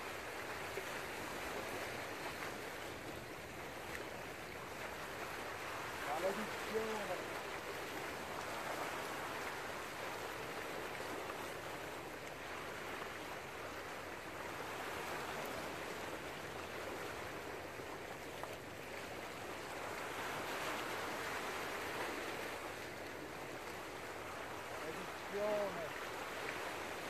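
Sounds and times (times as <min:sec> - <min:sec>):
sea waves washing over rocks: 0:00.0 - 0:27.0.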